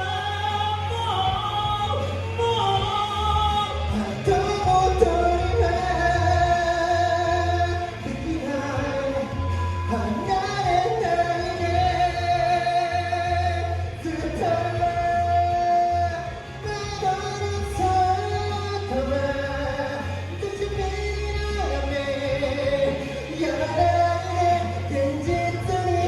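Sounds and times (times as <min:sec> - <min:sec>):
person singing pop song: 0:00.0 - 0:26.0
pulsing bass line: 0:00.0 - 0:26.0.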